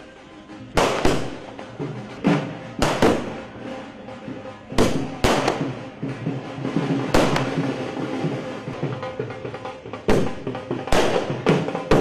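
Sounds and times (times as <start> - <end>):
music playing: 0.0 - 12.0
firecrackers banging: 0.5 - 3.9, 4.6 - 12.0.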